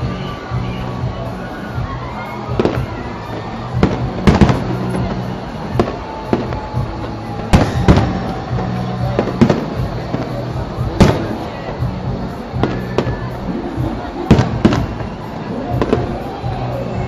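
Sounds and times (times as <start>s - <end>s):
fireworks bangs: 0.0s - 17.0s
music playing: 0.0s - 17.0s.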